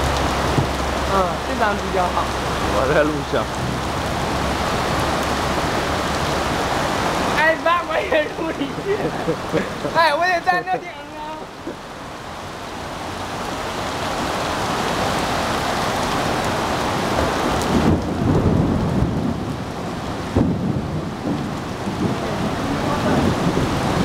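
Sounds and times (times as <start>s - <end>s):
cars ploughing through floodwater: 0.0s - 24.0s
heavy rain pouring: 0.0s - 24.0s.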